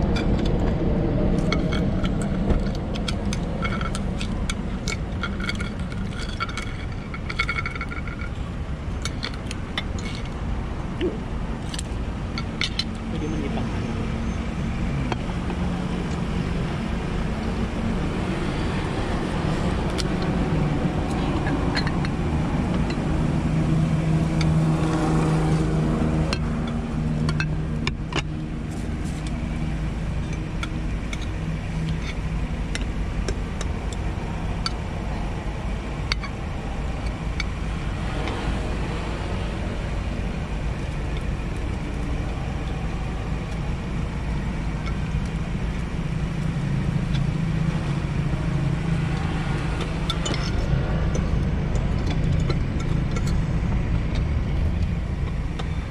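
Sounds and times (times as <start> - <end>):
motor vehicle engine humming: 0.0 - 55.9.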